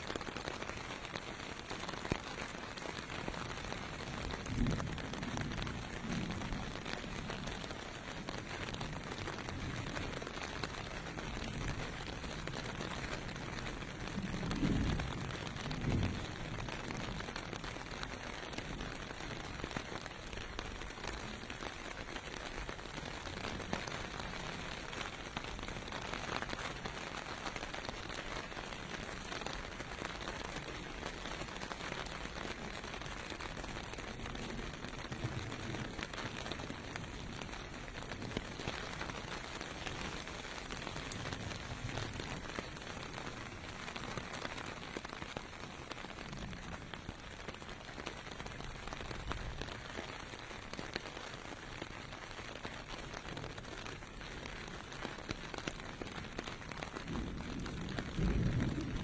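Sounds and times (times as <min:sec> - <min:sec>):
rain on pavement: 0:00.0 - 0:59.0.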